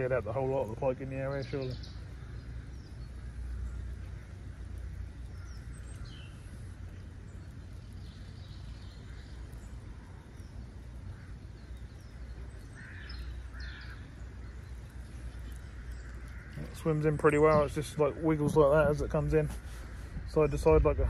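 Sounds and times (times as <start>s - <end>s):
birds calling: 0.0s - 21.0s
steady low rumble: 0.0s - 21.0s.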